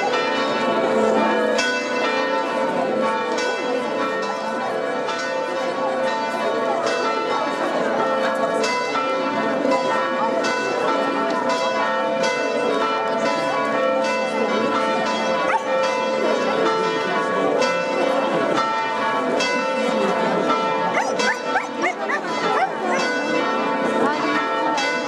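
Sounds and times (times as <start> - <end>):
church bells pealing: 0.0 - 25.0
crowd talking: 0.0 - 25.0.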